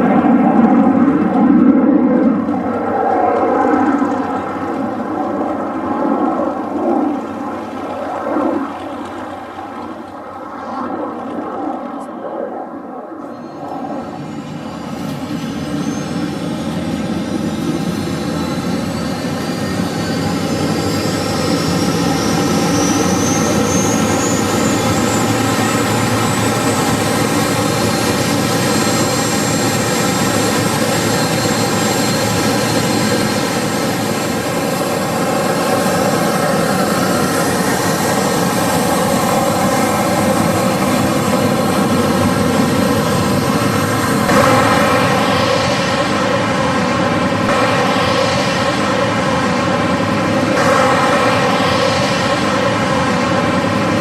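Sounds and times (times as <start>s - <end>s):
aircraft engine running: 0.0s - 54.0s
high engine whine rising: 0.0s - 54.0s.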